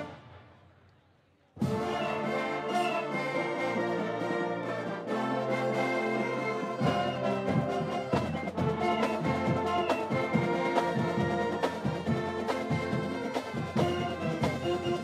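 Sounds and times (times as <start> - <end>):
brass pep band playing: 0.0 - 0.6, 1.6 - 15.0.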